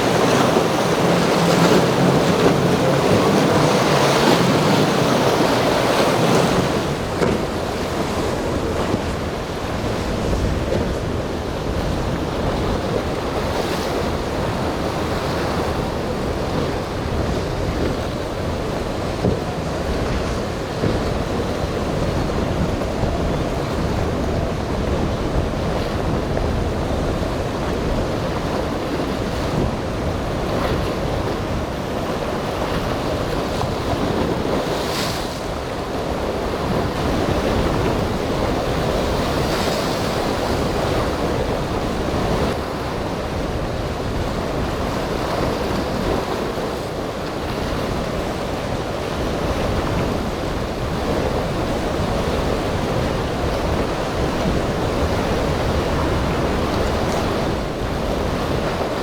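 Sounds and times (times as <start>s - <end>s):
ocean surf rushing: 0.0s - 59.0s
wind buffeting microphone: 0.0s - 59.0s.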